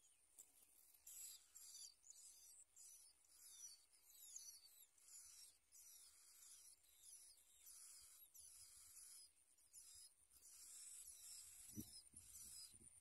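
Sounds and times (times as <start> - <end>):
nestlings begging chirps: 0.8 - 13.0.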